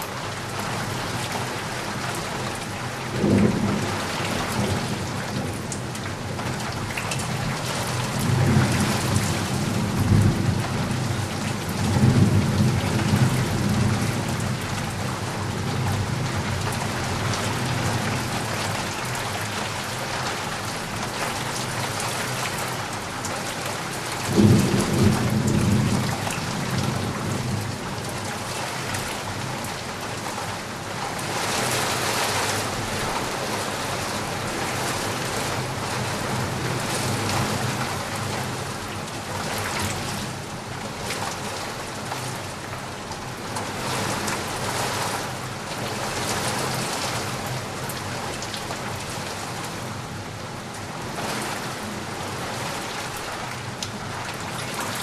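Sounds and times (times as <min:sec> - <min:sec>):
rain pattering outside window: 0:00.0 - 0:55.0.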